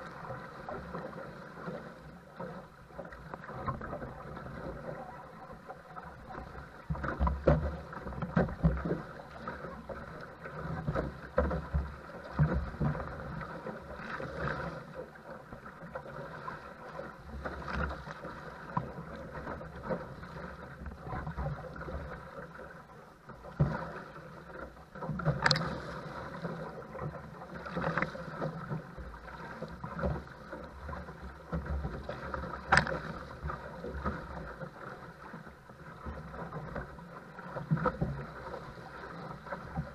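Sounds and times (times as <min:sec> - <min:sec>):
water slapping against a boat: 0:00.0 - 0:39.9.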